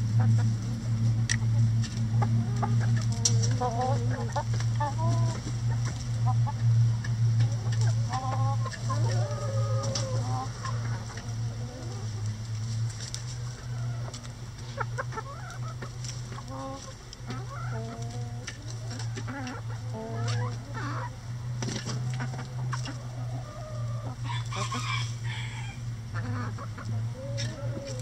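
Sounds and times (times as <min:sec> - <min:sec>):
hens clucking: 0:00.0 - 0:28.0
steady low hum: 0:00.0 - 0:28.0.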